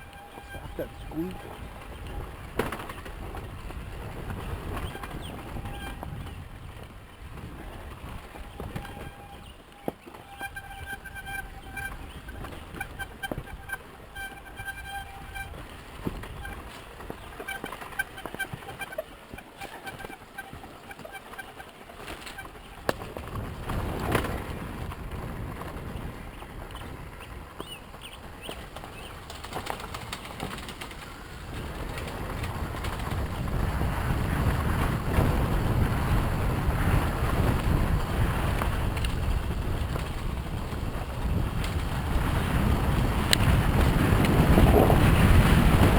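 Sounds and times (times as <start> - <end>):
dirt bike engine: 0.0 - 45.9
wind noise: 0.0 - 45.9.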